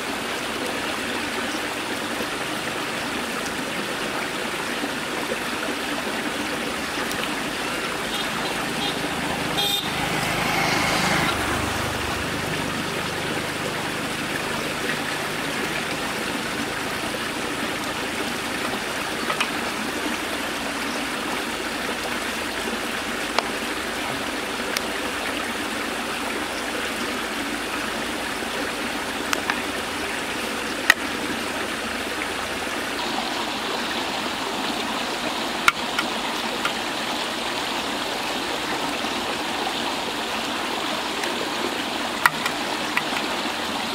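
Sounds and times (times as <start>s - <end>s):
water pouring from pipes: 0.0s - 43.9s.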